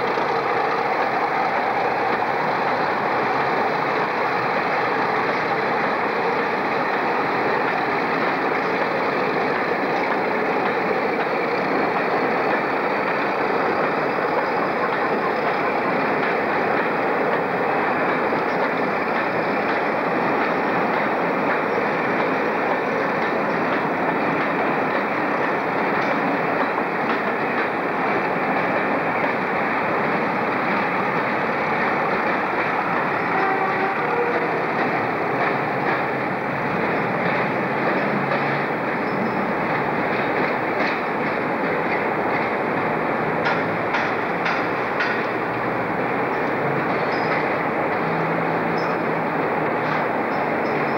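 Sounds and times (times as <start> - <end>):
train coaches rolling on rails: 0.0 - 50.9.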